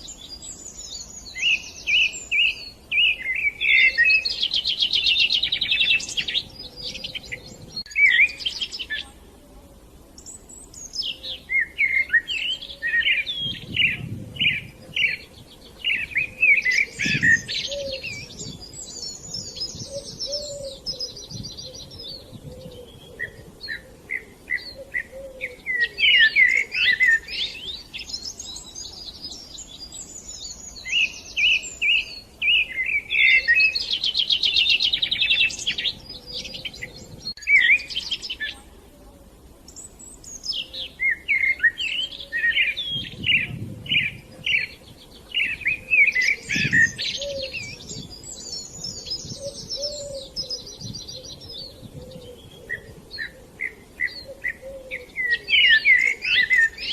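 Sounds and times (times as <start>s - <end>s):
songbirds chirping and trilling: 0.0s - 56.9s.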